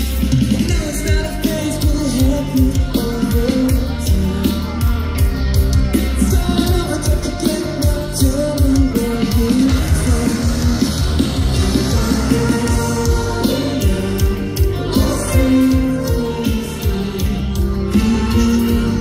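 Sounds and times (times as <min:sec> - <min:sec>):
bass guitar: 0:00.0 - 0:19.0
distorted guitars: 0:00.0 - 0:19.0
person singing: 0:00.5 - 0:19.0.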